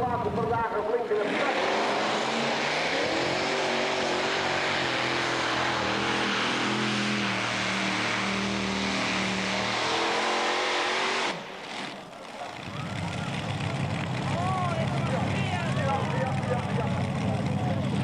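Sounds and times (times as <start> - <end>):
tractor engine roaring under load: 0.0 - 18.0.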